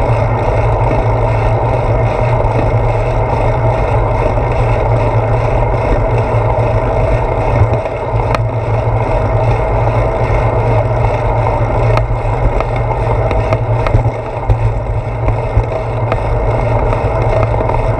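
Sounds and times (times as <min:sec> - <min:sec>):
wind rumble: 0:00.0 - 0:17.9.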